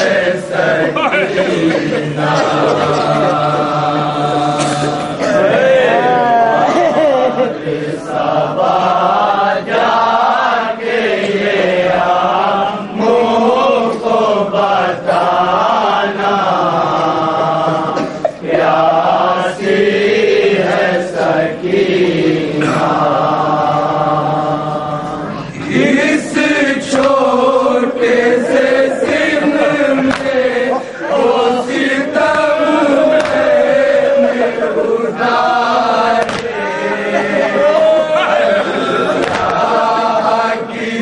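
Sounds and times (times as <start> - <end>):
men chanting a lament: 0.0 - 41.0
person singing through a microphone: 0.0 - 41.0.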